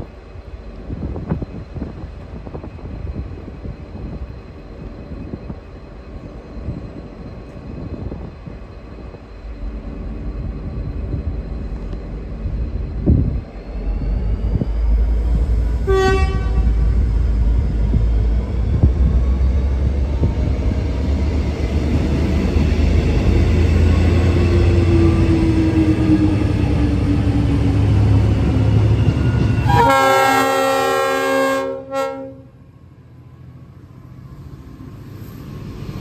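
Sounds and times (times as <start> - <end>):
locomotive engine rumble: 0.0 - 31.2.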